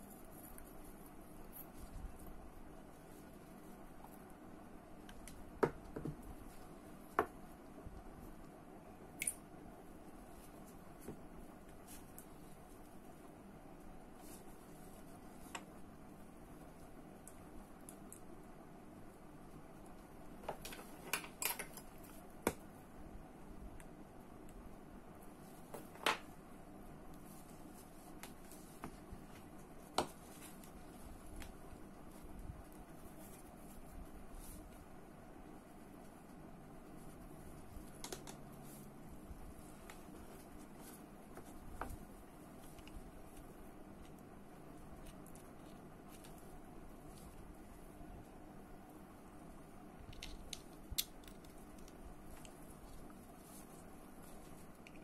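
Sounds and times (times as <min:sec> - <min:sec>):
low steady hiss: 0:00.0 - 0:55.0.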